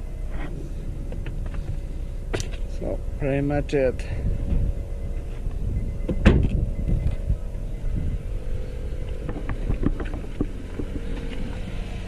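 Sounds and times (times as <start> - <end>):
motor running with low rumble: 0.0 - 12.0.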